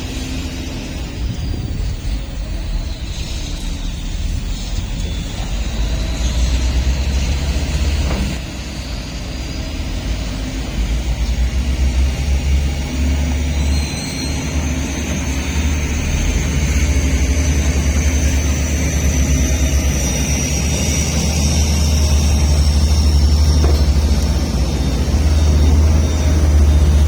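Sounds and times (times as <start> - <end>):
diesel engine low rumble: 0.0 - 27.0.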